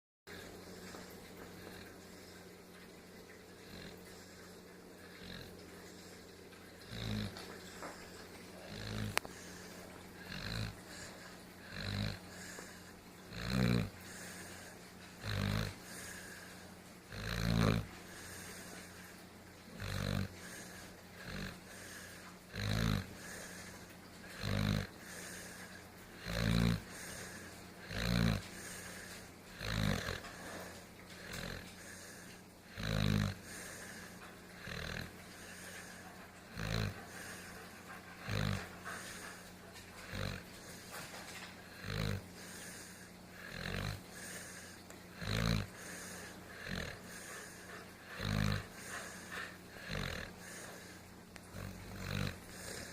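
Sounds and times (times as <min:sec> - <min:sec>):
animal snoring with grunts: 0:00.3 - 0:52.9.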